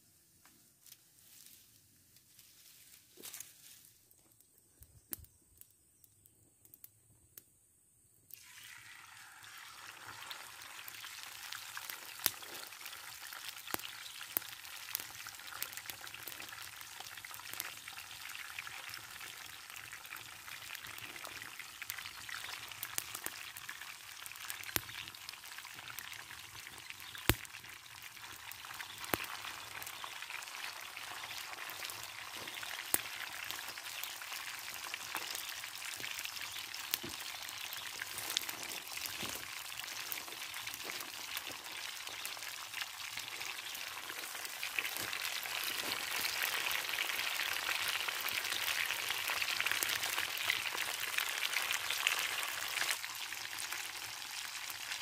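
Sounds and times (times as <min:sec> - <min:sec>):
food sizzling in hot oil: 0:08.3 - 0:55.0.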